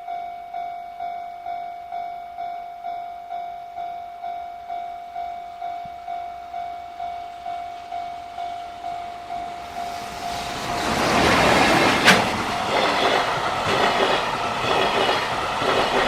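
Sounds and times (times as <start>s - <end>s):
level crossing warning bell: 0.0s - 16.0s
freight train approaching: 1.0s - 16.0s.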